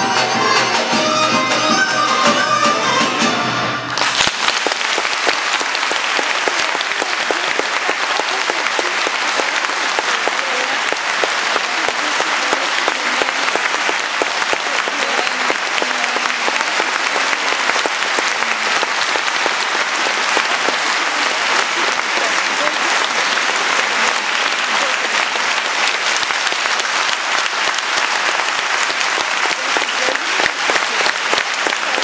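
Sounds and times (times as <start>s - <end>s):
audience applauding: 0.0s - 32.0s.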